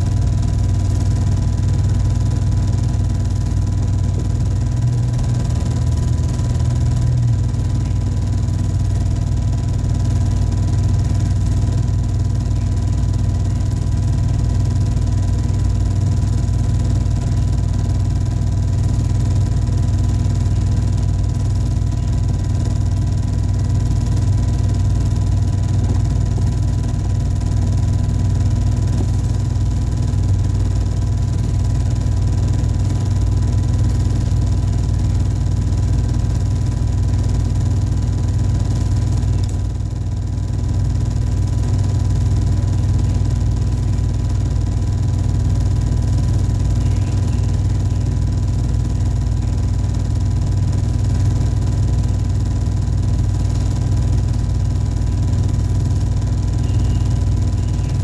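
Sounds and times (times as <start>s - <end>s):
film projector motor whirring: 0.0s - 58.0s.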